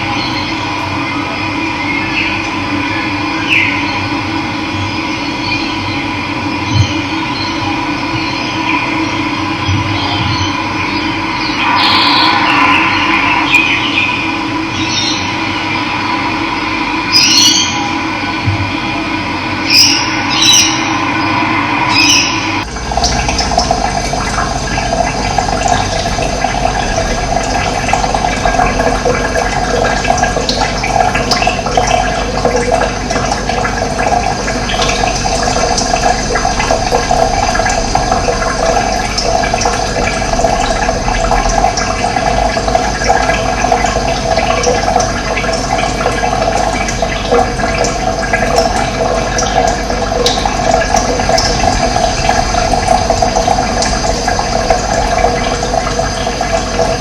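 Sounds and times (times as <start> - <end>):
running water rushing and gurgling: 0.0 - 57.0.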